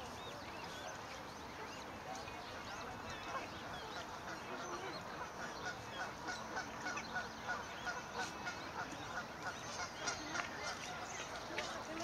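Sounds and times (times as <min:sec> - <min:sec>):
cygnets peeping: 0:00.0 - 0:12.0.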